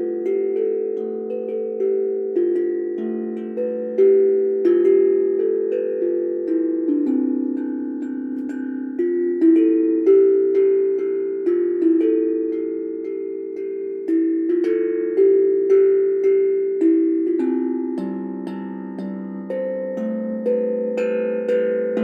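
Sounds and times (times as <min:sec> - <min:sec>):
steel tongue drum melody: 0:00.0 - 0:22.0.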